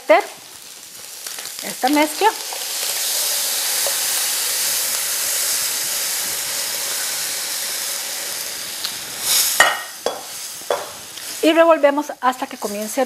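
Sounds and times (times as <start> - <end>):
sizzling hiss: 0.0 - 13.0.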